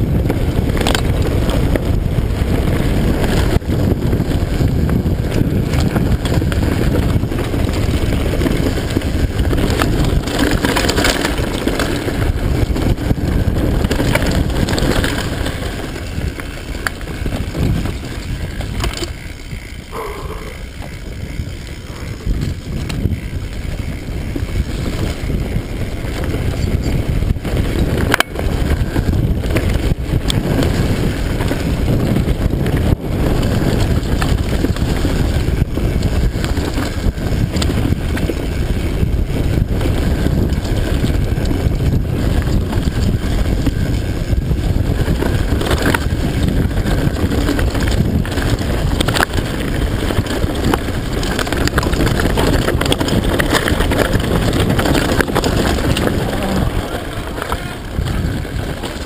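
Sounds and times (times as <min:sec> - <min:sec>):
bike tyre rumble and rattling: 0:00.0 - 0:59.0
wind buffeting microphone: 0:00.0 - 0:59.0.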